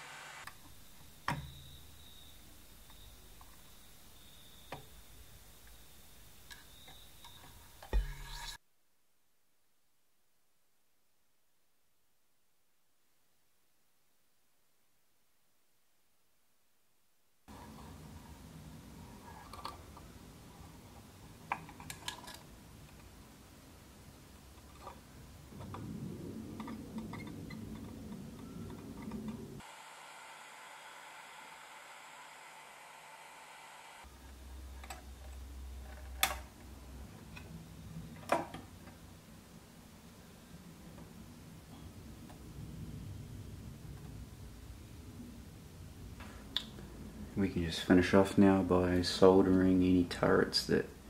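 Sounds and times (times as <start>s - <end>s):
low room hum: 0.0s - 51.0s.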